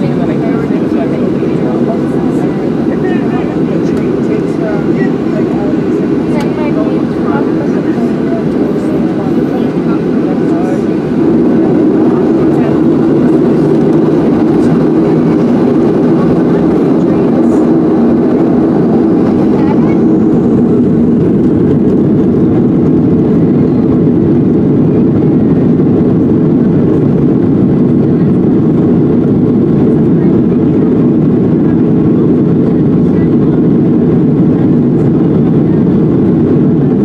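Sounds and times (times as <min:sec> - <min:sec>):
aircraft cabin engine drone: 0:00.0 - 0:37.0.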